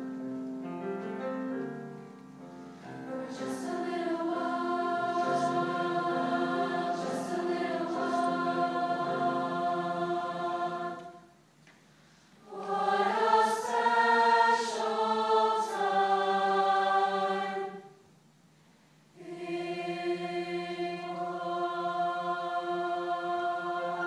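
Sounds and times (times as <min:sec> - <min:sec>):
choir singing held chords: 0:02.7 - 0:18.2, 0:19.1 - 0:24.0.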